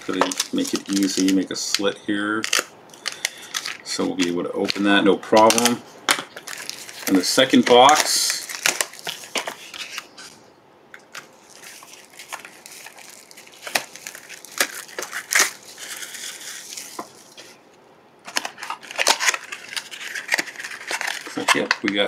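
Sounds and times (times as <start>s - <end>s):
foil packs crinkling and rustling: 0.0s - 10.3s, 11.1s - 17.6s, 18.2s - 22.0s.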